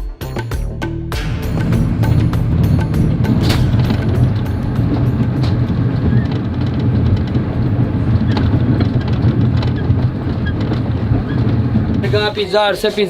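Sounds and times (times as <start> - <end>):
train carriage rumbling on track: 1.2 - 13.0
train wheels knocking: 1.3 - 13.0.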